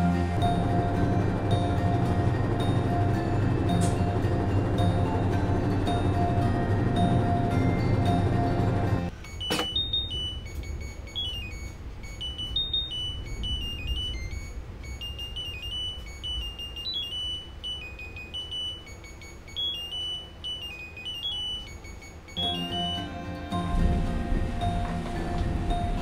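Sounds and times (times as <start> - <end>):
washing machine beep melody: 0.0 - 26.0.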